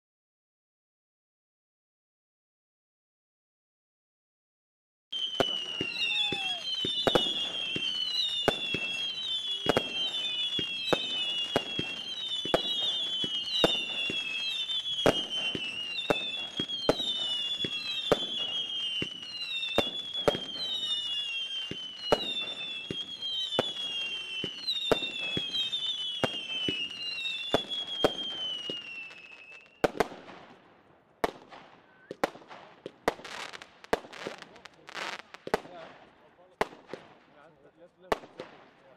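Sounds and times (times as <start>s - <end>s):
firework whistles with pops: 5.1s - 38.9s
crackling firework pops: 5.2s - 37.4s, 38.1s - 38.9s.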